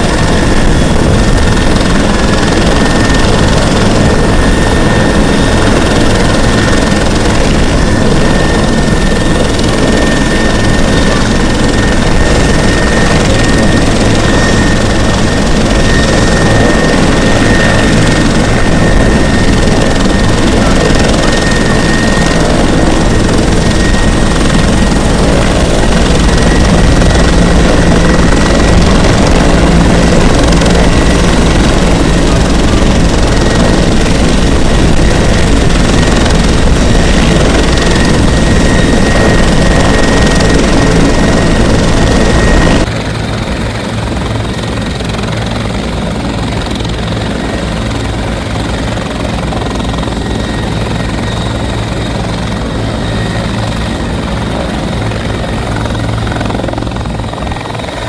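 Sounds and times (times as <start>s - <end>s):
helicopter rotor noise: 0.0s - 58.0s
high turbine whine: 0.0s - 58.0s.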